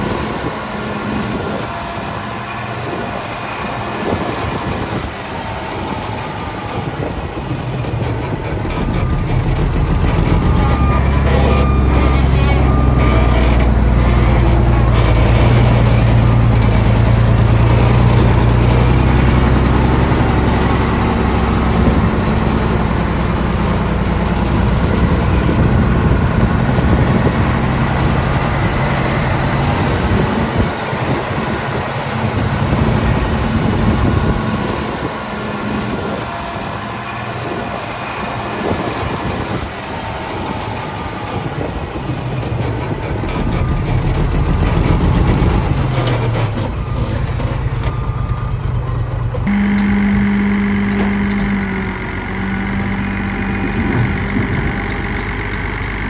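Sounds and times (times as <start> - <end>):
diesel construction machinery running: 0.0 - 56.0.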